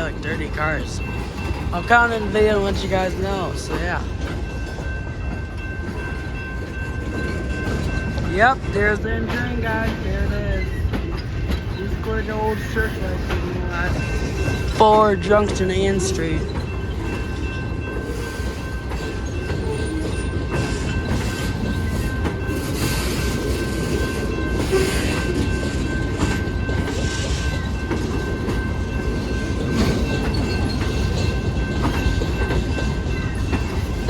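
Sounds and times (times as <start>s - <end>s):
train wheel clacks: 0.0s - 34.0s
train wheels rumbling: 0.0s - 34.0s.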